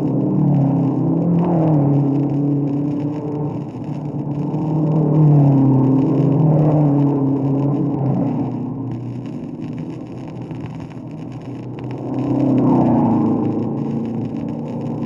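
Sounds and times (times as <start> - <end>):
racing car engines: 0.0 - 15.0
record surface noise: 0.0 - 15.0.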